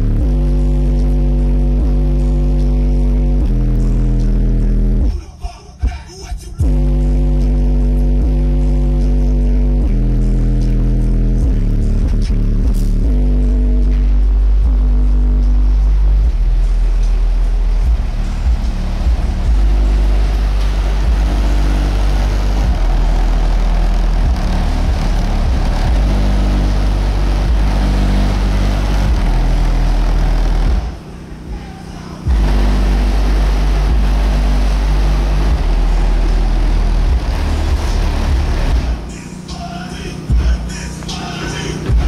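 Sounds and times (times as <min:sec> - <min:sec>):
loud music with deep bass: 0:00.0 - 0:42.0.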